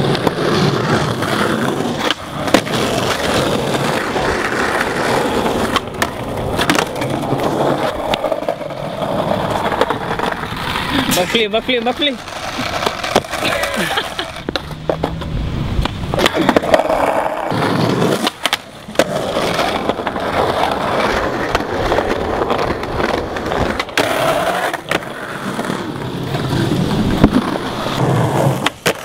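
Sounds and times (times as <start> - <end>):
skateboard clacking on ground: 0.0 - 29.0
skateboard wheels rumbling: 0.0 - 29.0.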